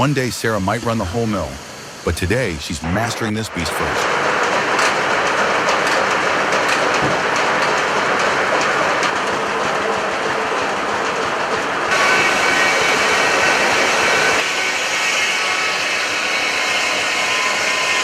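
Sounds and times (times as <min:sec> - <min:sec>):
sawmill machinery din: 0:00.0 - 0:18.0.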